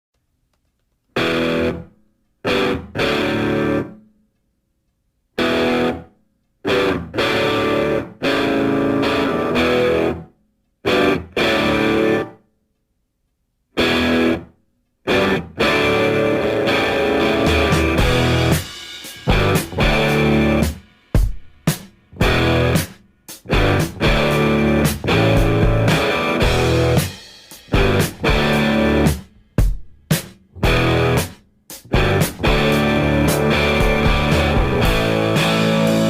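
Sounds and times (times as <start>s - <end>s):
electric guitar chords: 1.2s - 4.0s, 5.4s - 12.4s, 13.8s - 20.8s, 22.1s - 29.3s, 30.6s - 36.0s.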